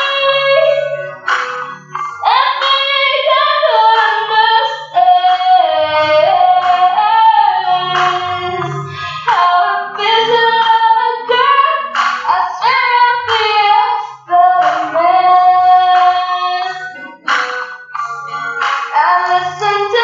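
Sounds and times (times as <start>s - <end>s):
woman singing pop ballad: 0.0s - 1.2s, 2.2s - 17.4s, 18.9s - 20.0s.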